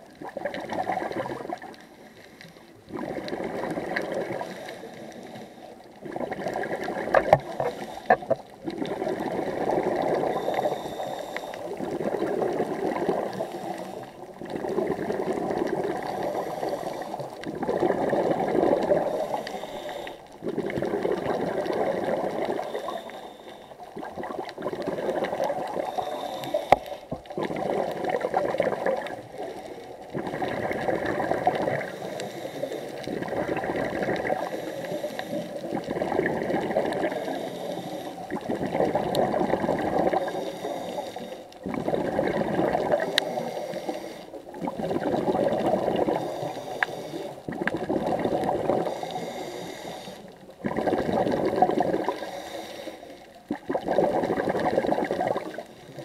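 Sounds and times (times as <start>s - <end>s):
bubbles gurgling: 0.0s - 1.8s, 2.8s - 5.2s, 5.8s - 32.2s, 32.8s - 41.0s, 41.6s - 49.5s, 50.2s - 52.4s, 53.2s - 56.0s
diver breathing underwater: 1.5s - 56.0s.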